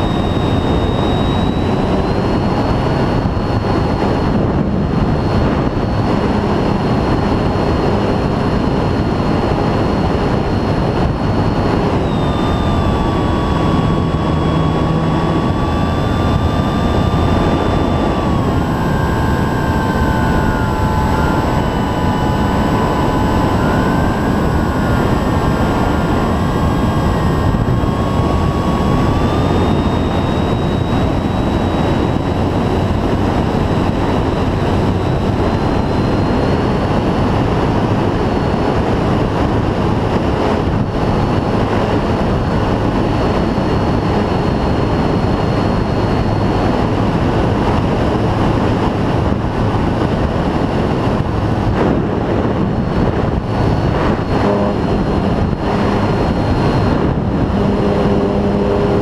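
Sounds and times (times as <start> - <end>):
electric motor and propeller whine: 0.0 - 59.0.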